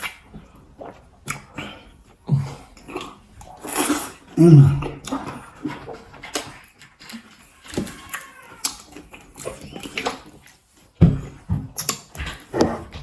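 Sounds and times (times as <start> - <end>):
wet chewing: 0.0 - 12.8.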